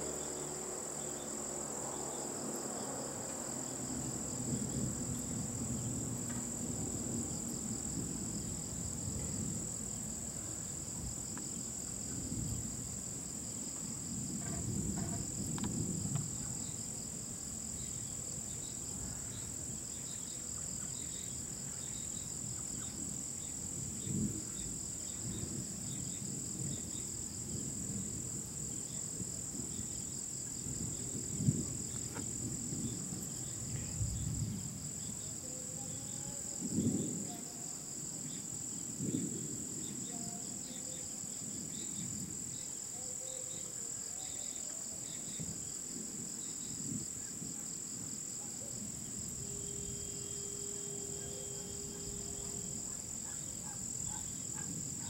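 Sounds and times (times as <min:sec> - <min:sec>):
crickets and insects trilling: 0:00.0 - 0:55.0.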